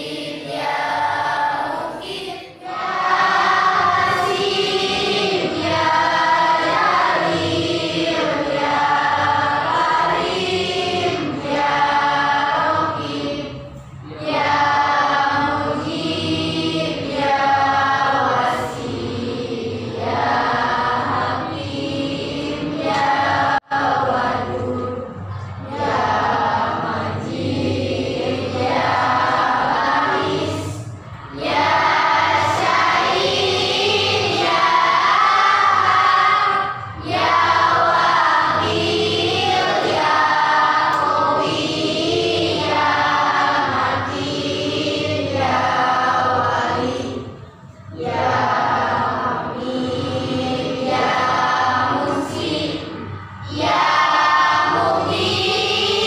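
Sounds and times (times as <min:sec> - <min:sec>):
group singing in chorus: 0:00.0 - 0:56.0.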